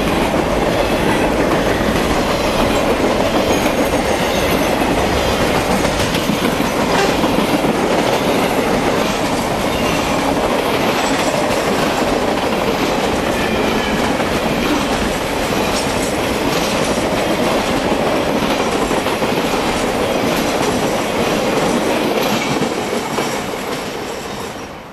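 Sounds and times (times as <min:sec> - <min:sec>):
rumble of wheels on rail: 0:00.0 - 0:24.9
wheels clicking over track: 0:00.1 - 0:24.2.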